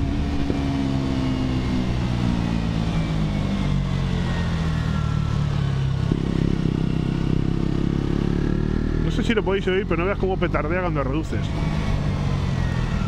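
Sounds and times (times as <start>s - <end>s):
motorcycle engine decelerating: 0.0s - 13.0s.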